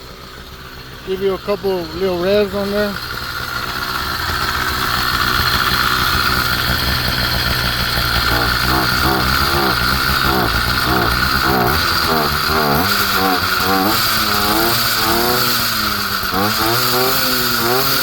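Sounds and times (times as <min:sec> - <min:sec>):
small engine revving: 0:00.0 - 0:18.0.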